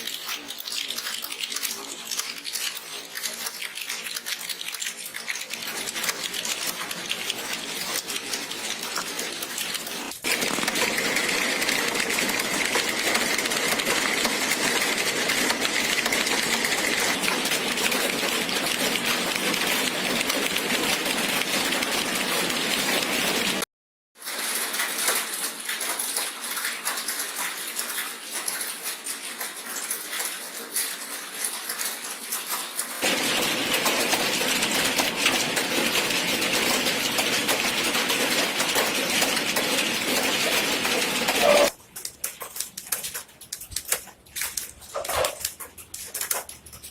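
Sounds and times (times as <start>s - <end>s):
keyboards clattering with fast typing: 0.0s - 46.9s.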